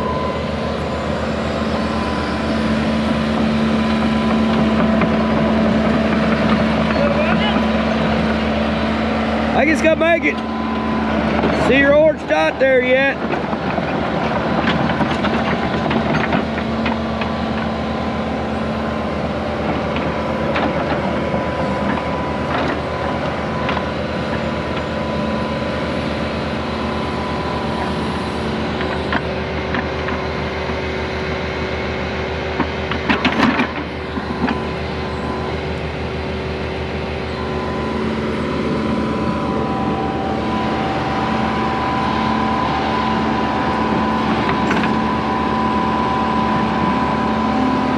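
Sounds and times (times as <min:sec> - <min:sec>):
excavator engine running: 0:00.0 - 0:47.9
hydraulic whine: 0:00.0 - 0:47.9.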